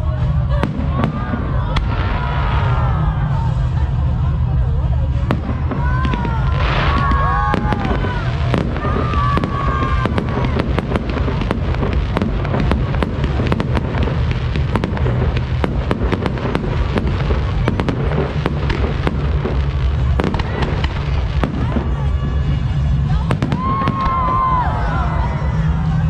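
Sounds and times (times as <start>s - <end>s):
fireworks bursting and crackling: 0.0s - 26.0s
low rumble: 0.0s - 26.0s.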